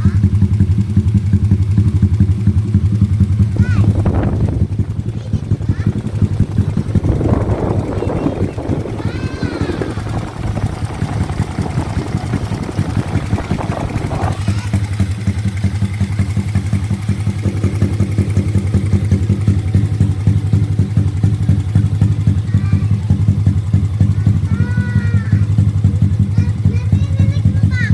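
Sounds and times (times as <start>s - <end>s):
motorcycle engine idling loudly: 0.0s - 27.9s.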